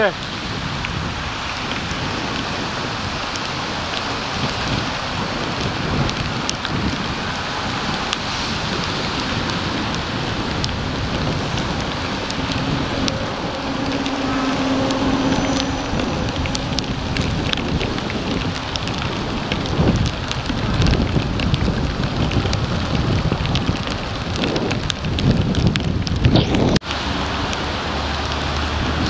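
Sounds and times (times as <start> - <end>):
heavy rain on wet road: 0.0 - 29.0
low traffic hum: 0.0 - 29.0
raindrops ticking: 0.0 - 29.0.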